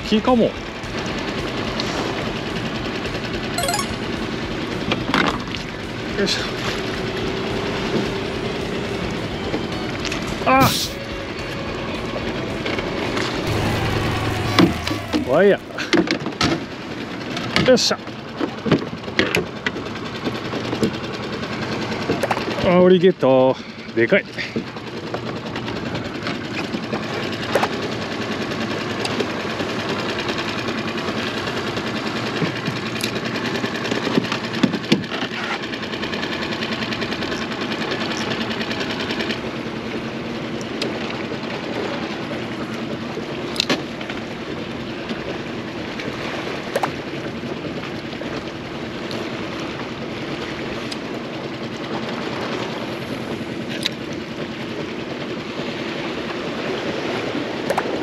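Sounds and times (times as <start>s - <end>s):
outboard motor running: 0.0s - 3.5s, 4.2s - 58.0s.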